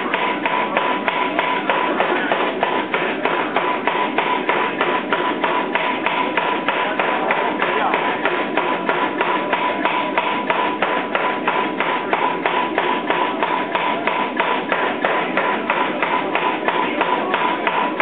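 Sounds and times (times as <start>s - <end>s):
air hammer striking hot steel: 0.0s - 18.0s.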